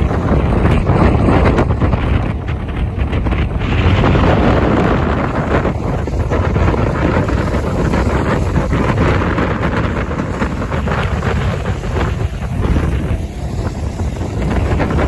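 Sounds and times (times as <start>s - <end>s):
faint racing car engines: 0.0s - 15.0s
wind buffeting microphone: 0.0s - 15.0s.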